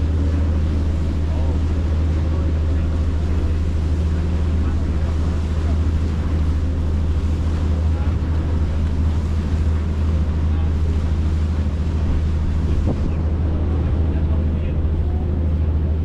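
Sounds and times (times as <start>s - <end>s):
boat engines droning: 0.0s - 16.0s
water rushing: 0.0s - 16.0s
wind buffeting microphone: 0.0s - 16.0s.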